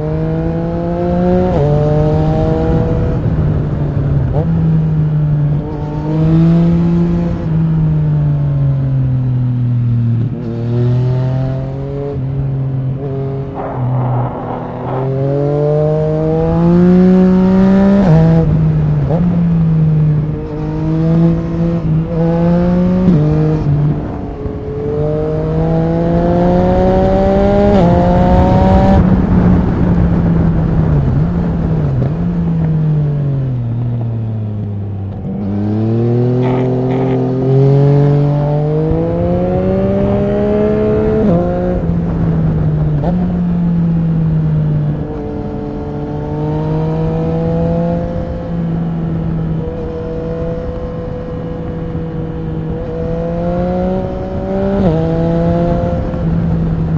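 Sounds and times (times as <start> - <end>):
motorcycle engine accelerating hard: 0.0 - 56.9.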